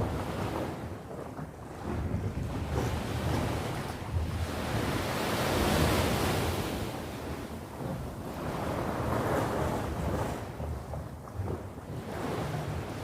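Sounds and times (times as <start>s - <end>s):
sea waves washing onto shore: 0.0s - 13.0s
wind rumble on microphone: 0.0s - 13.0s.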